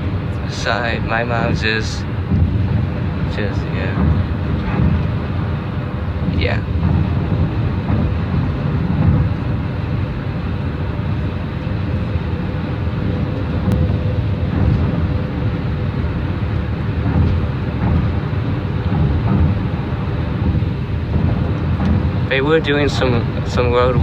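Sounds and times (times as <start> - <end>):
tyre and road rumble: 0.0 - 24.0.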